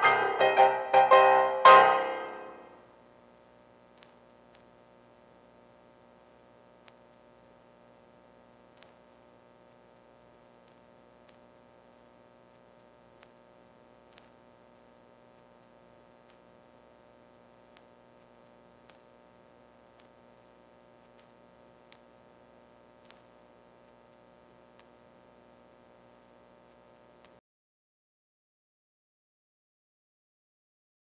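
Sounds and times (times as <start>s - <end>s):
faint electrical hum and hiss: 0.0s - 27.4s.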